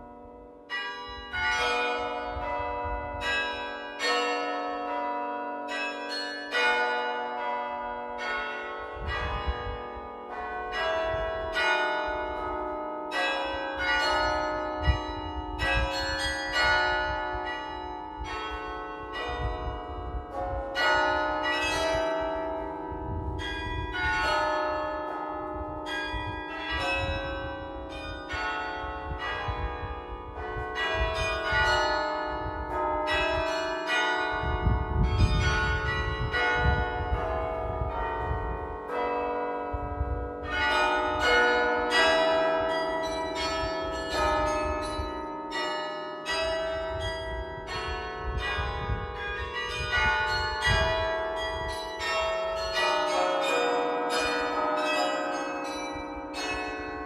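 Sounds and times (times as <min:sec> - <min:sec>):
carillon bell melody: 0:00.0 - 0:57.0.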